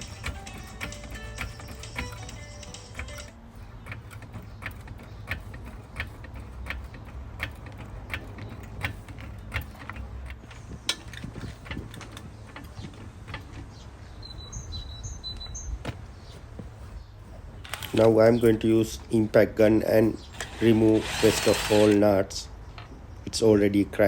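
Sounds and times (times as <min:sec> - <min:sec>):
trolley jack clicking and creaking: 0:00.0 - 0:15.5, 0:17.3 - 0:22.8
birds chirping: 0:00.0 - 0:24.0.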